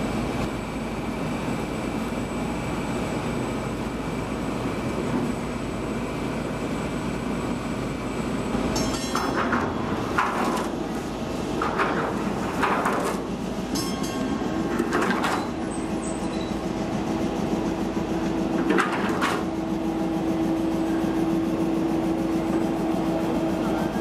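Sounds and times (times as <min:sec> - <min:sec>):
locomotive rumbling on rails: 0:00.0 - 0:24.0.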